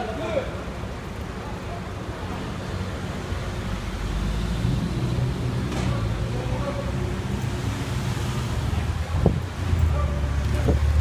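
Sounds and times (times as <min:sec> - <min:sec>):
heavy vehicle engines idling: 0:00.0 - 0:11.0
road traffic rumble: 0:00.0 - 0:11.0.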